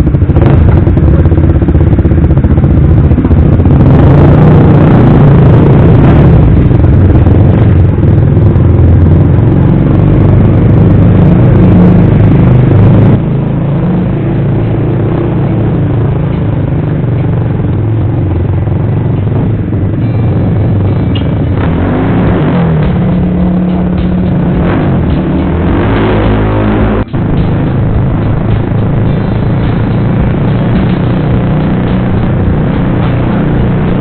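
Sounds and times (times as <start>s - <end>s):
motorcycle engine running loud: 0.0s - 34.0s.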